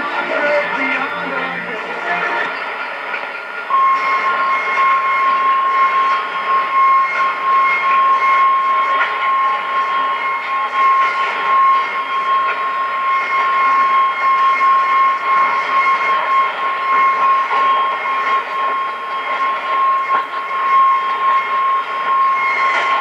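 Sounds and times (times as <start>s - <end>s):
high radio whistle: 0.0s - 23.0s
radio static hiss: 0.0s - 23.0s
fainter higher whistle: 3.6s - 23.0s.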